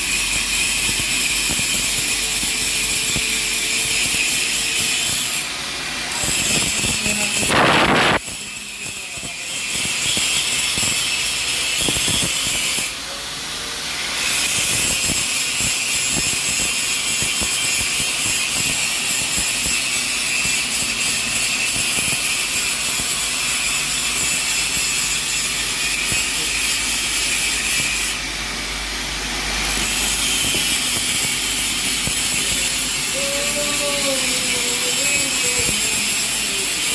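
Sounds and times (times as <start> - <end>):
welding arc hissing: 0.0 - 36.9.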